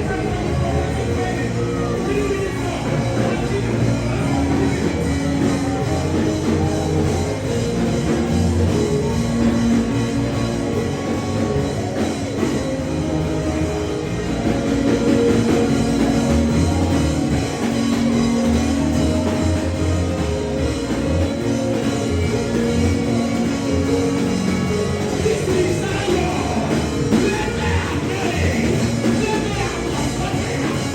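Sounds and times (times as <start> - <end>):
drums: 0.0 - 30.9
guitar: 0.0 - 30.9.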